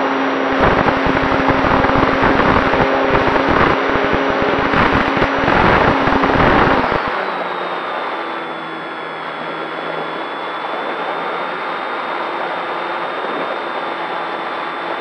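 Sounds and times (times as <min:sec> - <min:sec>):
electric motor and propeller hum: 0:00.0 - 0:15.0
airflow buffeting microphone: 0:00.1 - 0:15.0.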